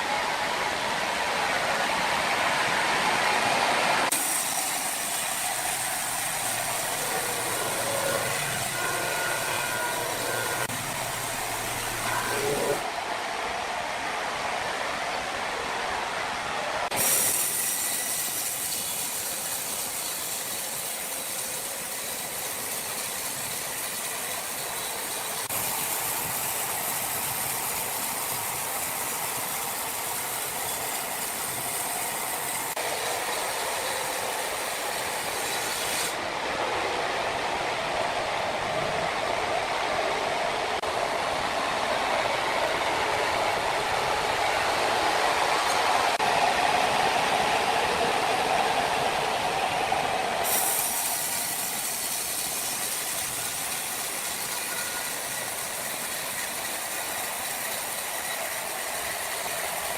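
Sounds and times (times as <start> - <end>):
sawmill machinery sawing logs: 0.0 - 13.1, 16.8 - 37.3, 38.1 - 59.9.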